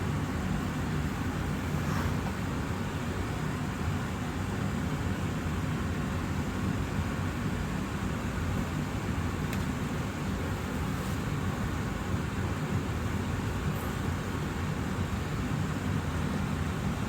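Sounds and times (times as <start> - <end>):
air purifier fan running: 0.0 - 17.0.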